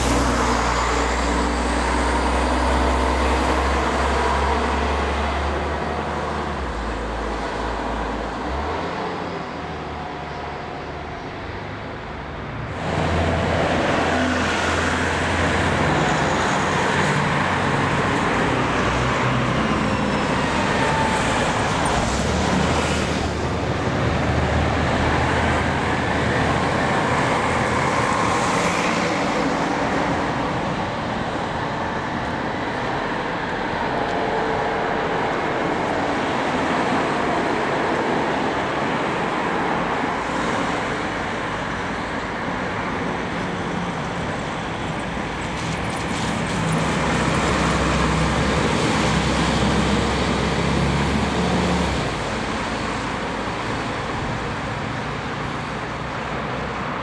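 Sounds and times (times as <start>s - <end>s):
heavy diesel engine drone: 0.0s - 57.0s
road traffic passing: 0.0s - 57.0s.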